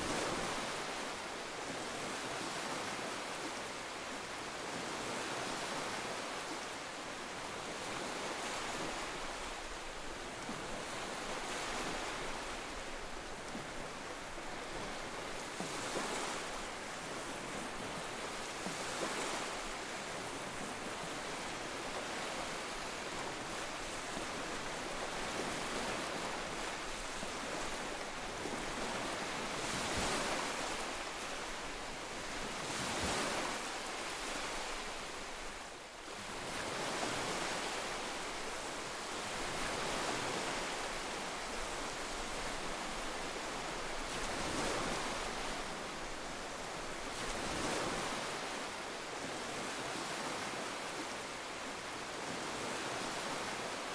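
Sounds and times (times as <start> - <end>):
ocean waves breaking on rocks: 7.3 - 53.9.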